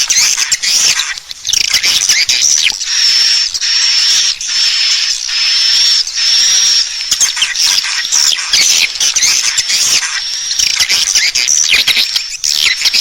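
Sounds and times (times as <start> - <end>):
buzzy bird chirps: 0.0 - 13.0
fast bird twittering: 0.0 - 13.0.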